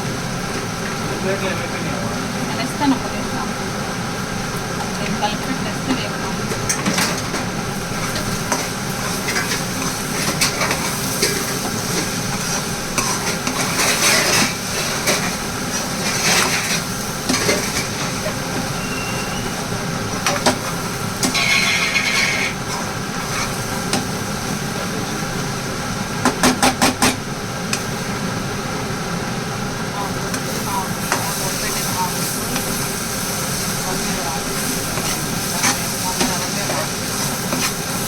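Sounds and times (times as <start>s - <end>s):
utensil stirring in a pan: 3.8s - 25.6s, 27.2s - 38.0s.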